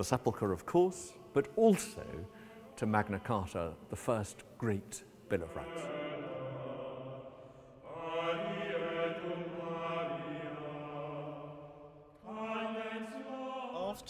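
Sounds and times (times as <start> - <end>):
slow sung chant: 0.2 - 14.0.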